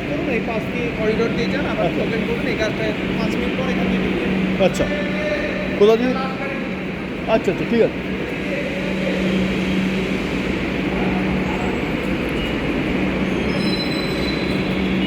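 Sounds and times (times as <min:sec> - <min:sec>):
metro train low hum: 0:00.0 - 0:15.0.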